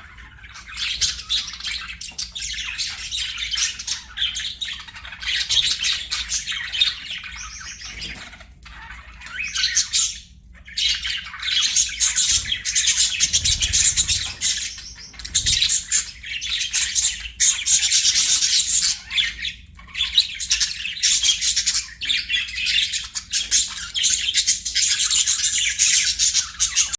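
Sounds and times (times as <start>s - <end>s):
budgerigars chirping and chattering: 0.0s - 26.9s.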